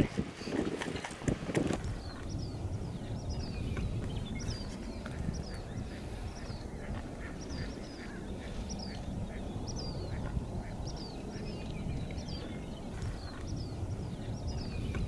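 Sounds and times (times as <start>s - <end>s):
steady low rumble: 1.4s - 15.0s.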